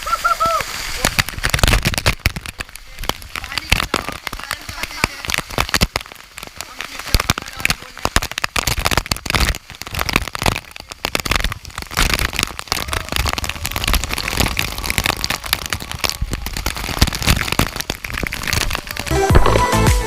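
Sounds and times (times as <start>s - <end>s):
rushing waterfall: 0.0s - 20.0s
sharp crackles: 0.0s - 20.0s.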